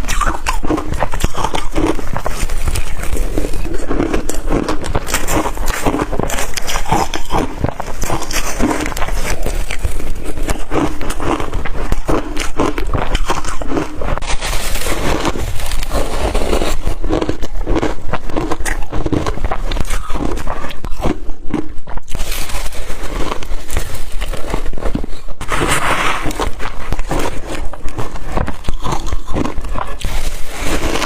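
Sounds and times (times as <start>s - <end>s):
crunching ice being chewed: 0.0s - 31.0s.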